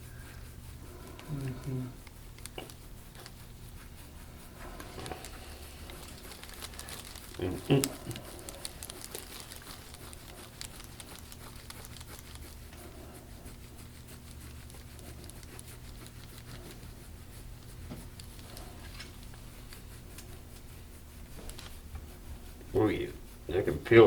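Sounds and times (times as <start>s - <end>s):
scraping tool on skin: 0.0s - 24.0s
steady low hum: 0.0s - 24.0s.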